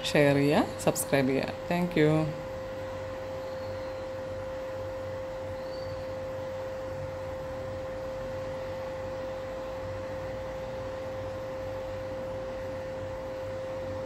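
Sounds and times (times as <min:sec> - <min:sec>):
constant mid-pitched tone: 0:00.0 - 0:14.0
steady background hum: 0:00.0 - 0:14.0.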